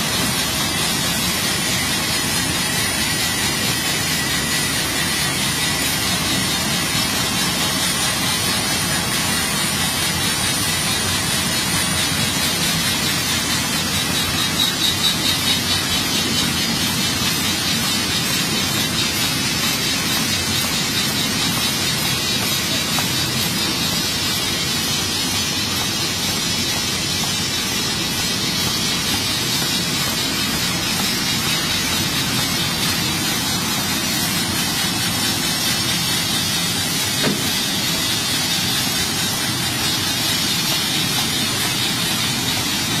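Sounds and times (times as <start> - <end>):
machine rushing and hissing: 0.0 - 43.0.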